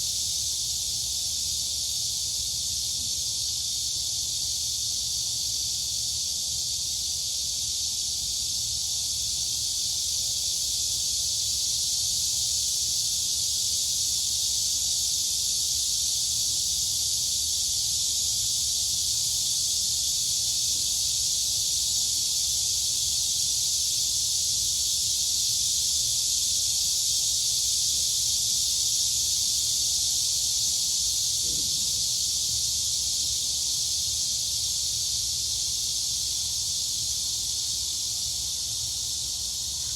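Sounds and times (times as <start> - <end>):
crickets and cicadas buzzing: 0.0 - 39.9.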